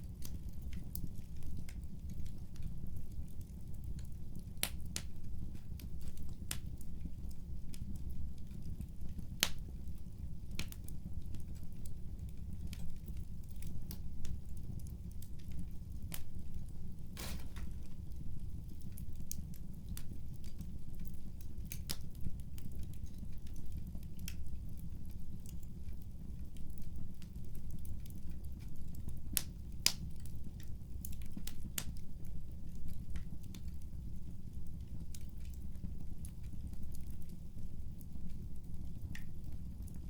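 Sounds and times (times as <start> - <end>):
low fire rumble: 0.0 - 40.0
wood fire crackling: 0.0 - 40.0.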